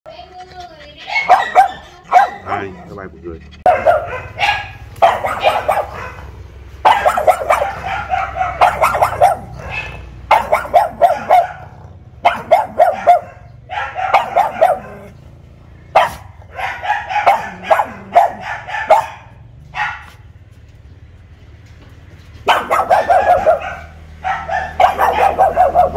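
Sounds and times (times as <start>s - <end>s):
dog yapping barks: 1.0s - 2.9s, 3.6s - 15.2s, 15.9s - 20.3s, 22.4s - 25.9s.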